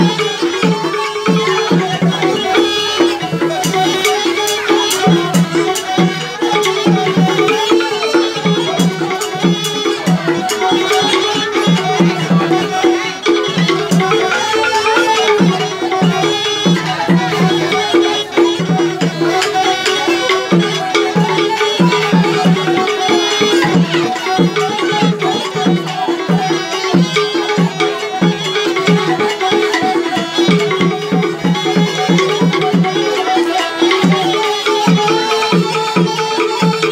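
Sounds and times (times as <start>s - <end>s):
bamboo wind instruments melody: 0.0s - 36.9s
wooden xylophone struck with mallets: 0.0s - 36.9s.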